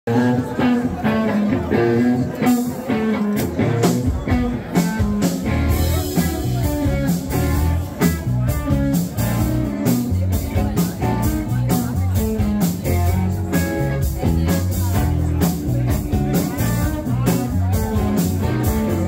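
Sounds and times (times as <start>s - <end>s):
bass guitar: 0.1s - 19.0s
drum kit: 0.1s - 19.0s
electric guitars: 0.1s - 19.0s.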